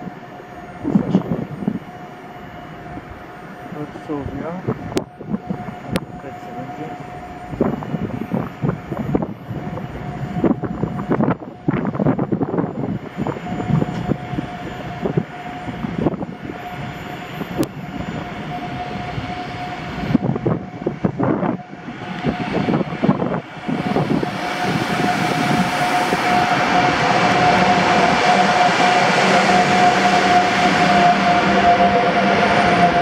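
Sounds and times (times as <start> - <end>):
electric train passing at speed: 0.0 - 33.0.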